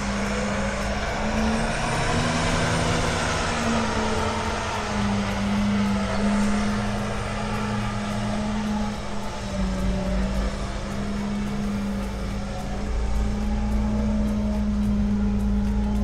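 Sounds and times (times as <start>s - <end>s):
tractor engine drone: 0.0s - 16.0s.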